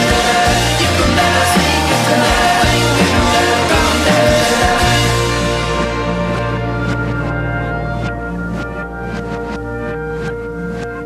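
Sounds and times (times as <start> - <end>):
synth music with steady beat: 0.0 - 11.0.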